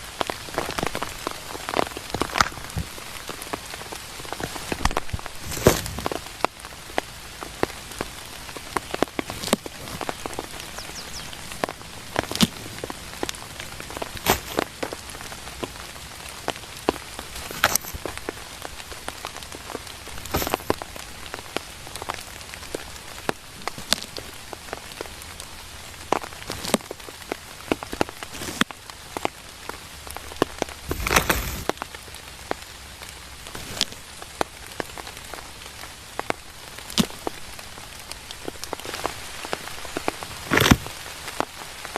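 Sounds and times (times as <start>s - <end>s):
raindrops tapping: 0.0s - 31.0s, 31.6s - 41.9s
steady rain: 0.0s - 41.9s.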